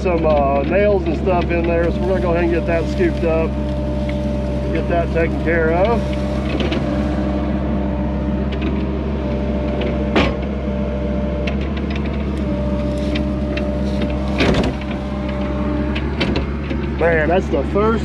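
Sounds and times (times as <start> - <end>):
constant whine: 0.0 - 18.0
excavator diesel engine running: 0.0 - 18.0.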